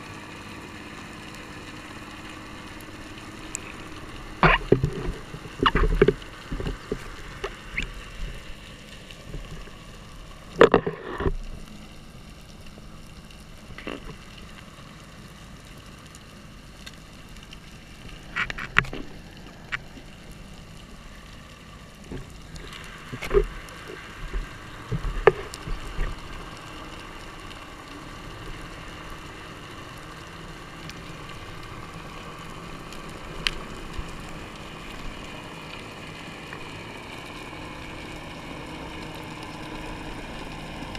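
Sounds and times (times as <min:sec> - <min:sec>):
faint hum: 0:00.0 - 0:40.9
muffled underwater hiss: 0:00.0 - 0:40.9.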